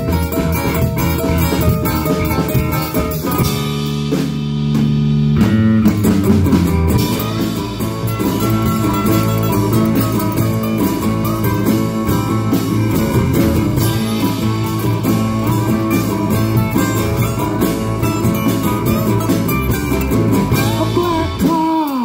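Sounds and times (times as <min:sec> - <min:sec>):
electric bass: 0:00.0 - 0:21.8
electric guitar: 0:00.0 - 0:22.0
strummed acoustic guitars: 0:00.0 - 0:22.0.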